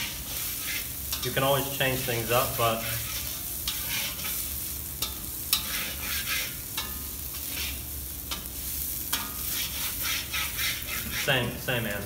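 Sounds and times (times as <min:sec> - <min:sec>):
metal spatula scraping a pan: 0:00.0 - 0:11.6
potatoes sizzling in a pan: 0:00.0 - 0:12.0.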